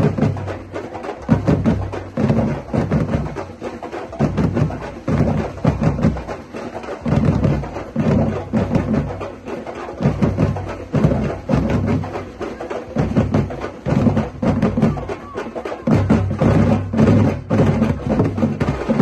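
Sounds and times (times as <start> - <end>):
fast higher drum strokes: 0.0 - 19.0
wood-block percussion: 0.0 - 19.0.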